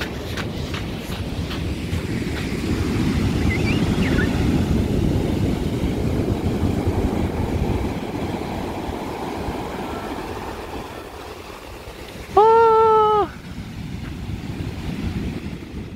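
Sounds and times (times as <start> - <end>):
sea surf breaking on beach: 0.0 - 15.9.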